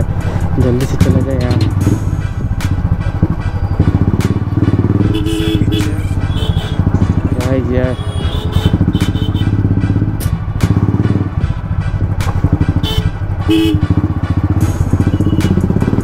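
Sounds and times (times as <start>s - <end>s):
motorcycle engine thumping: 0.0s - 16.0s.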